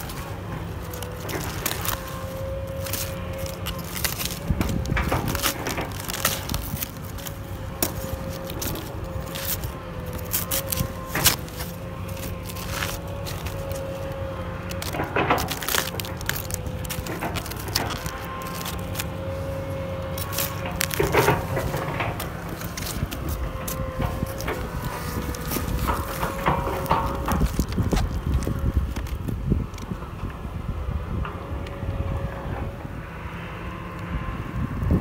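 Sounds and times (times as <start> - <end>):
knife cutting crisp cabbage leaves: 0.0 - 29.2.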